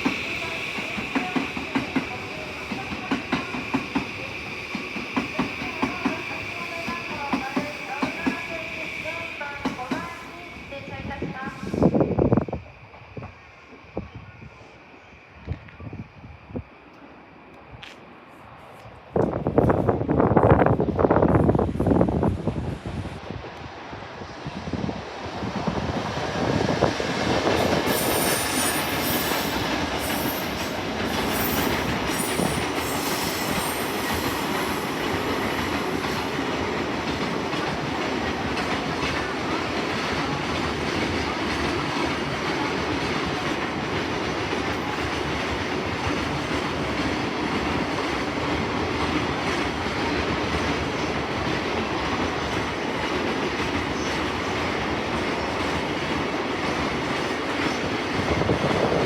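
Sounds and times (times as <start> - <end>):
train wheels rushing on rail: 0.0 - 59.0.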